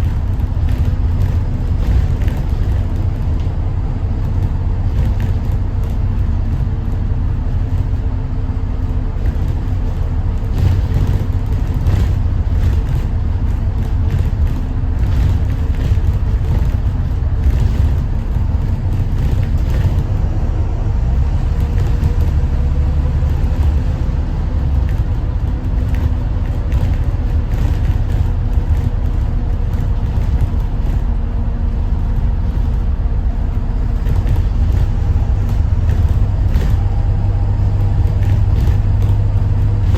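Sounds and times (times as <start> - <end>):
light rattles: 0.0 - 20.3, 21.4 - 39.9
bus diesel engine rumble: 0.0 - 39.9
road noise: 0.0 - 39.9.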